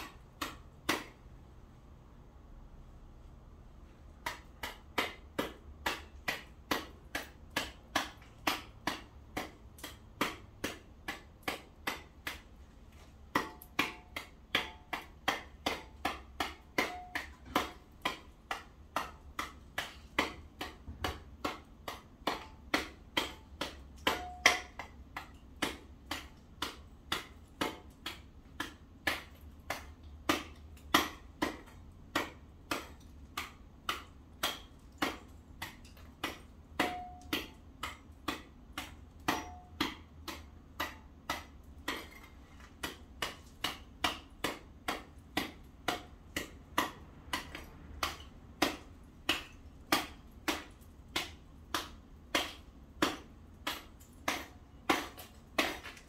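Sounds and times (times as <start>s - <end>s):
hand tool chipping ice: 4.2s - 56.0s.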